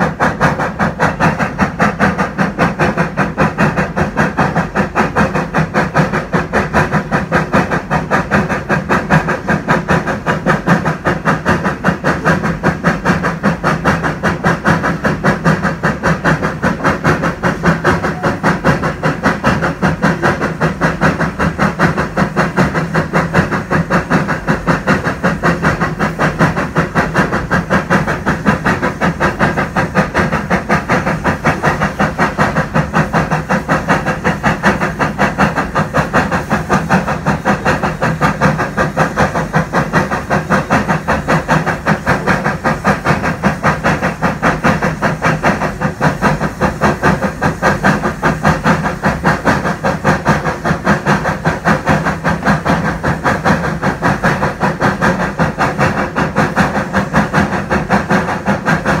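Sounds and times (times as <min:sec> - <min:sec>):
steam hiss: 0:00.0 - 0:59.0
steam locomotive chuffing: 0:00.0 - 0:59.0.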